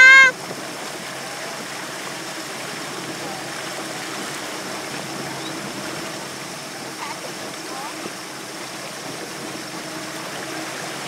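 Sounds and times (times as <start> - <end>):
water rushing past hull: 0.0 - 11.0
wind: 0.0 - 11.0.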